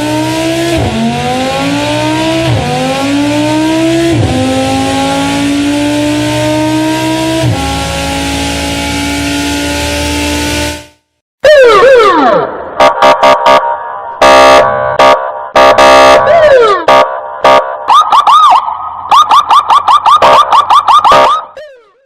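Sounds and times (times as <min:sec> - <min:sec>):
car alarm siren: 0:00.0 - 0:10.8, 0:11.4 - 0:22.0.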